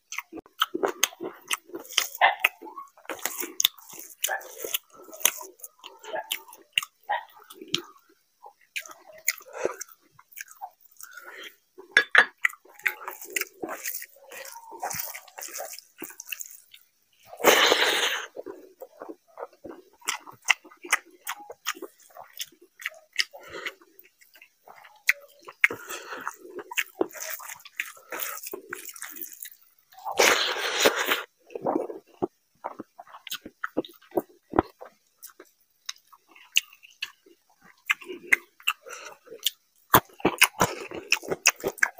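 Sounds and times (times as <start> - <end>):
sticky squishes of rice: 0.0 - 11.5, 12.5 - 41.9
chewing and lip-smacking: 0.0 - 41.9.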